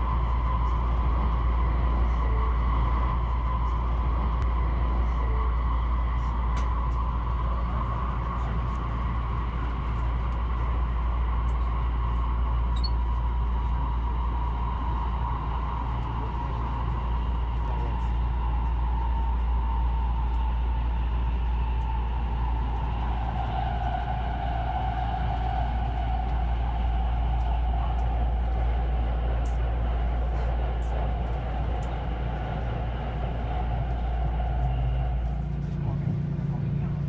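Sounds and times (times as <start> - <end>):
train rumble inside carriage: 0.0 - 37.0.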